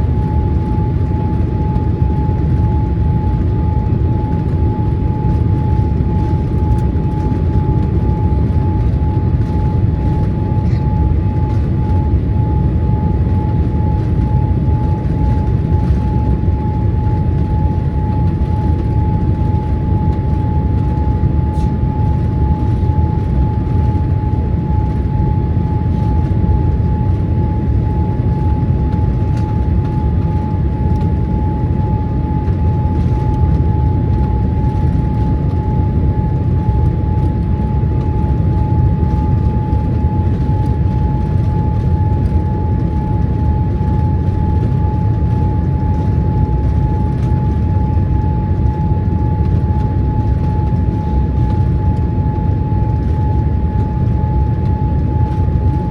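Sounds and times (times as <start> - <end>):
airplane cabin engine roar: 0.0 - 55.9
high whine: 0.1 - 55.9.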